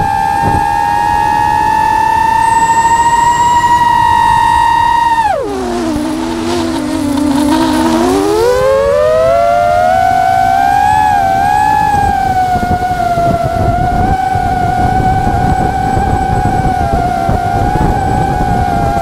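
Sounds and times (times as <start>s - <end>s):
drone propellers whining: 0.0s - 19.0s
low rumbling: 0.0s - 19.0s.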